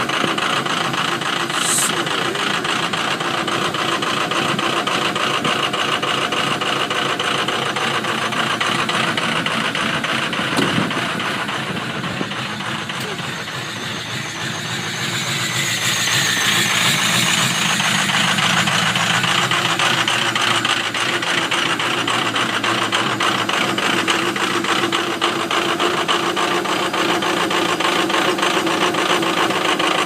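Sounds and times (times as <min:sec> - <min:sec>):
diesel engine clattering: 0:00.0 - 0:30.0.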